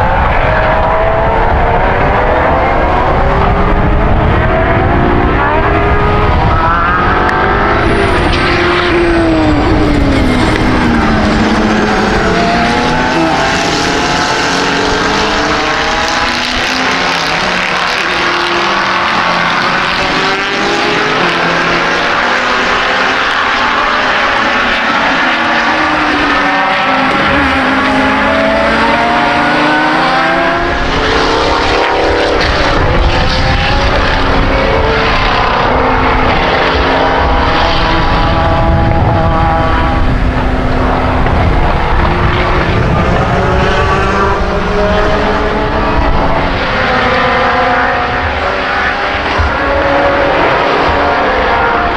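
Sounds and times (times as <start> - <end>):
racing car engines revving: 0.0 - 51.9.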